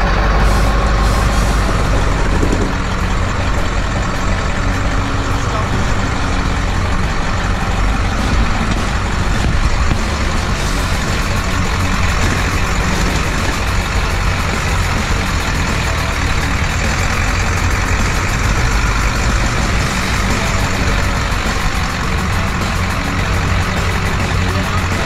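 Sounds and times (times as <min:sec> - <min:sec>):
diesel engine running: 0:00.0 - 0:25.0
tyres rolling over gravel: 0:00.0 - 0:25.0.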